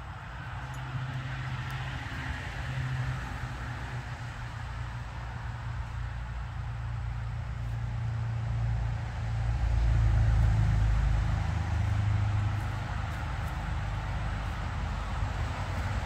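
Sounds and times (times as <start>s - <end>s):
motor vehicle passing: 0.0s - 16.0s.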